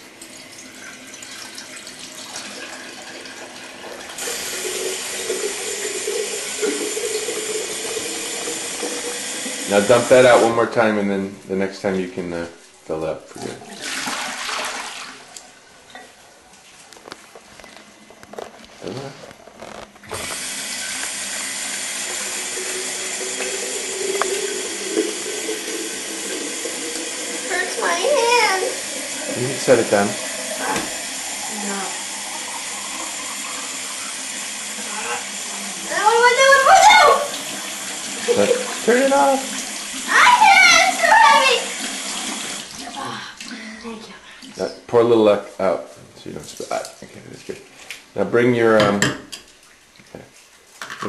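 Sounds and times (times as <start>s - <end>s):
faucet running water: 0.0s - 16.9s, 20.0s - 48.0s.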